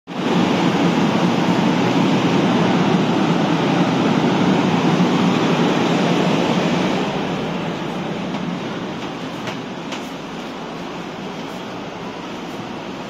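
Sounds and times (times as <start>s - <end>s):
train air conditioning rushing: 0.1s - 13.0s.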